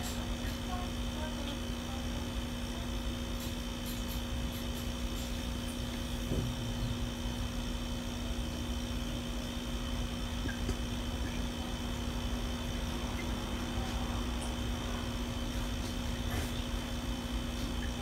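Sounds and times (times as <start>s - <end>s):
machine hum with low rumble: 0.0s - 18.0s.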